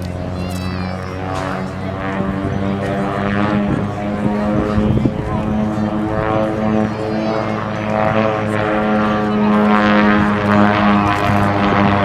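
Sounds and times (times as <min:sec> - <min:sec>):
propeller airplane engine drone: 0:00.0 - 0:12.0.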